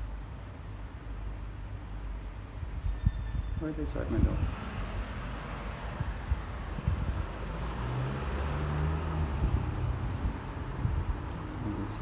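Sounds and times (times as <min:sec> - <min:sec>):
road noise hum: 0:00.0 - 0:12.0.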